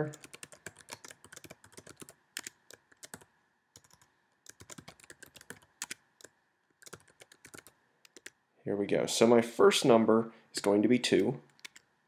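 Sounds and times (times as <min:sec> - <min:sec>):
faint keyboard typing: 0:00.0 - 0:08.4, 0:10.6 - 0:11.9.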